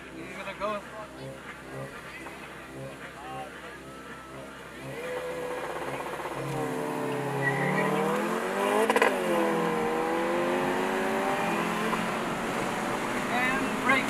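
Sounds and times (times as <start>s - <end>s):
car engine revving hard: 0.0s - 14.0s
exhaust cracks: 0.0s - 14.0s.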